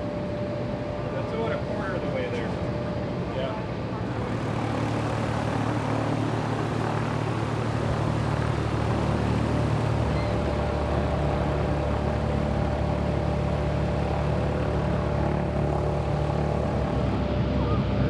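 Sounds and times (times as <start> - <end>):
propeller aircraft engine: 0.0 - 18.0.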